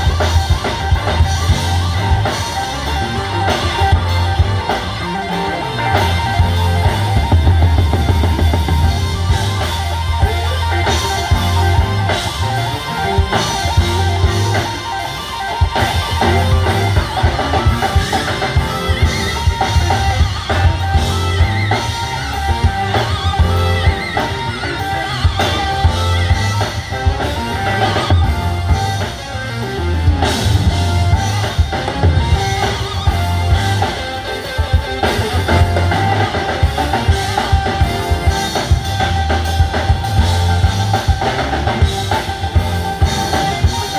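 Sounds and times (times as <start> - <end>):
live band playing: 0.0 - 43.9
repeating bass line: 0.0 - 43.9.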